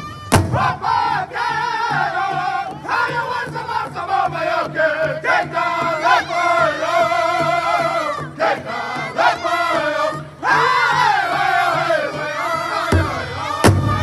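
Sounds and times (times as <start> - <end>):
group singing in high voices: 0.0 - 14.0
heavy drum beats: 0.0 - 14.0.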